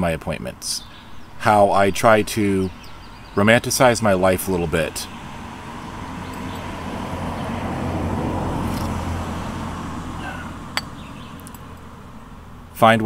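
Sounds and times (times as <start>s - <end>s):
car passing on road: 1.3s - 12.8s.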